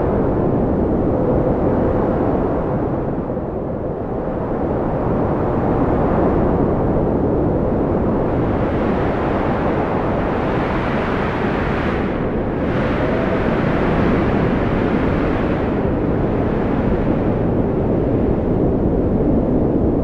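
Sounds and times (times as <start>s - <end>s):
strong wind blowing: 0.0s - 20.0s.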